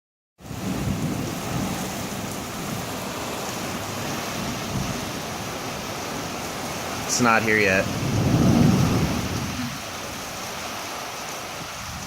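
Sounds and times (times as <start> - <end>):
thunder rumbling: 0.4 - 10.6
heavy rain: 0.4 - 12.0.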